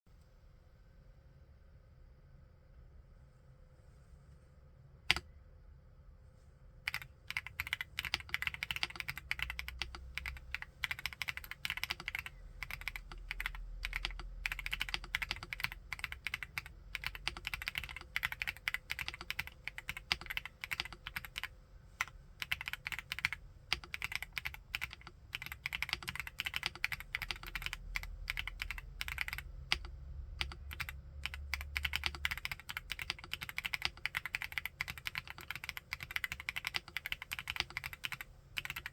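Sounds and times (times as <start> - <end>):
mechanical keyboard typing: 6.9 - 38.9.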